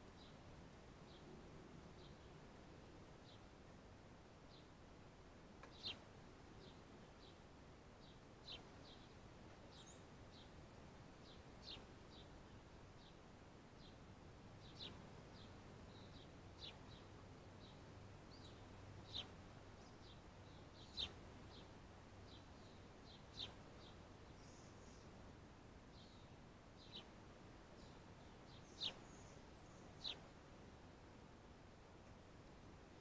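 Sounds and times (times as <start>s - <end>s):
small birds chirping: 0.1s - 3.6s, 4.4s - 4.8s, 5.6s - 31.2s.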